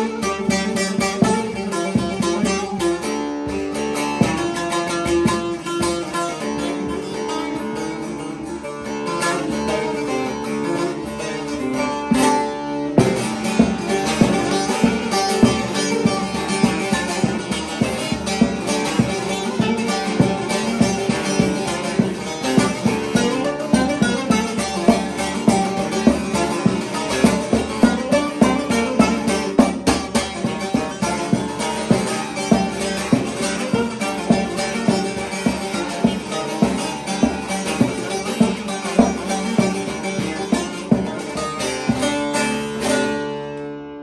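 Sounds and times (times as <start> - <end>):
long-necked lute plucked: 0.0 - 44.0.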